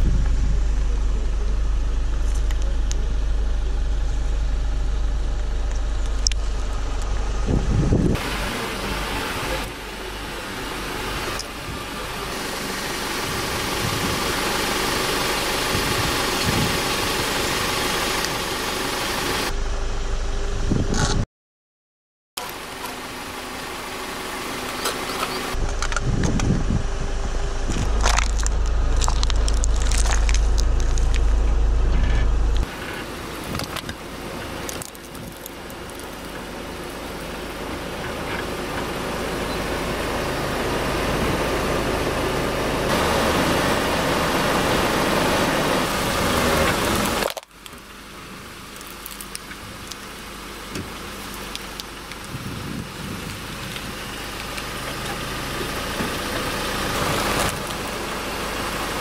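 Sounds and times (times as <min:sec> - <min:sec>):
car engine rumble: 0:00.0 - 0:21.3, 0:22.4 - 0:59.0.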